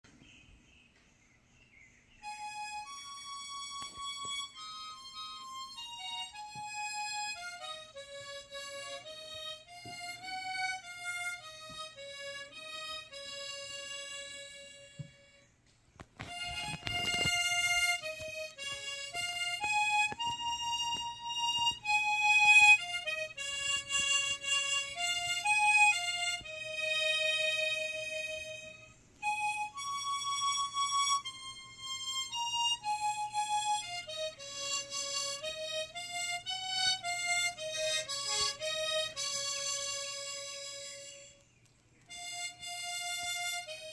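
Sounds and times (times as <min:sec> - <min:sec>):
harmonica melody: 0:02.2 - 0:43.9.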